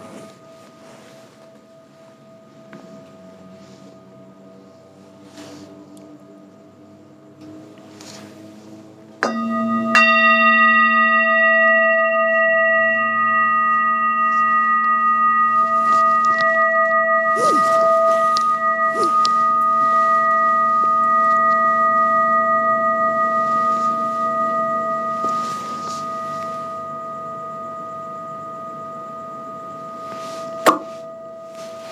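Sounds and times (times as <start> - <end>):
metal singing bowl ringing: 0.0 - 31.9.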